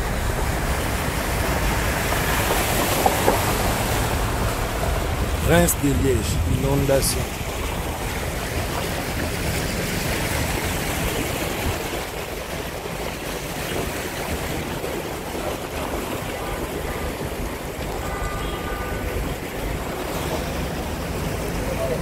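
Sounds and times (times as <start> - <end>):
vehicle noise: 0.0 - 22.0
water rushing and sloshing: 0.0 - 22.0.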